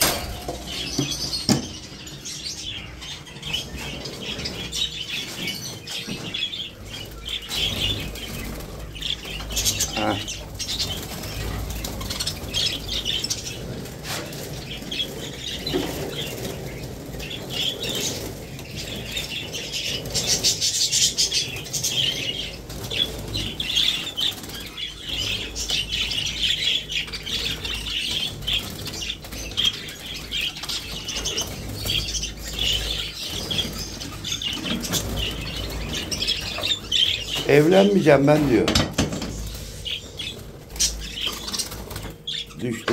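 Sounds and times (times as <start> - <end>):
budgerigars chattering and chirping: 0.0 - 42.9
wings flapping: 0.0 - 42.9.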